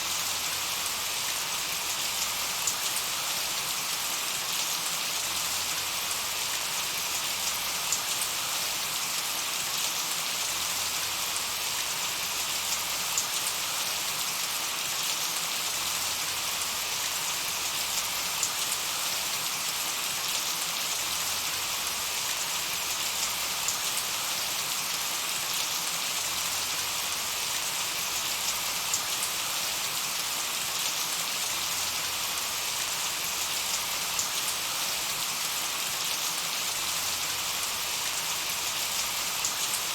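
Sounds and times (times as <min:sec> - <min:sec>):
gentle rain hiss: 0:00.0 - 0:39.9.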